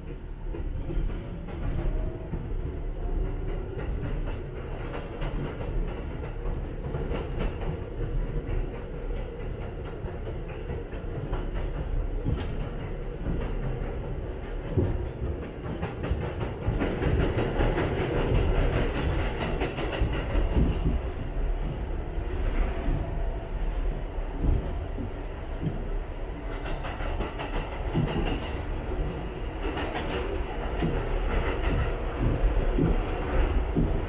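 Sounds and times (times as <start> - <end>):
subway train wheels rumbling: 0.0 - 34.0.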